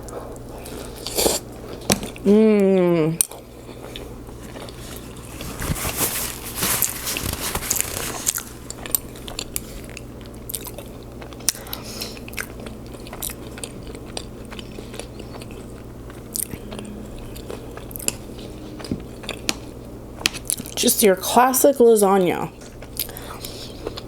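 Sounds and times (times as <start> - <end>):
person chewing food: 0.0 - 2.6, 3.2 - 20.8, 22.6 - 24.0.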